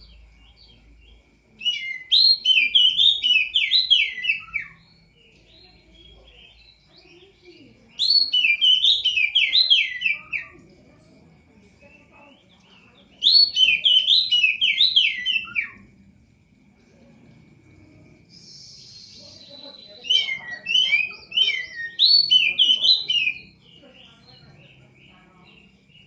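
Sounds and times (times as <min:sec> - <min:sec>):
faint steady high tone: 0:00.0 - 0:26.0
songbird singing: 0:00.0 - 0:26.0.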